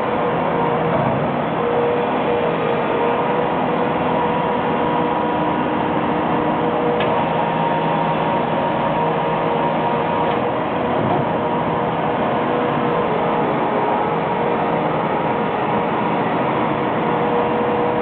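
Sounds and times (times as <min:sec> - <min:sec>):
tractor sweeper running: 0:00.0 - 0:18.0.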